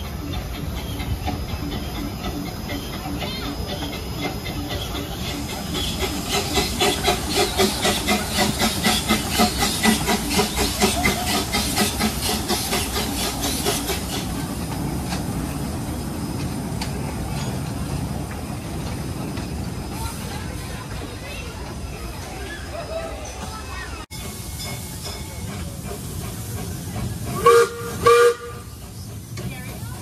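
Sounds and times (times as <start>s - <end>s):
steam hiss: 0.0s - 22.6s, 23.4s - 30.0s
coaches rumbling and clicking: 0.0s - 30.0s
miniature steam train chuffing: 0.0s - 30.0s.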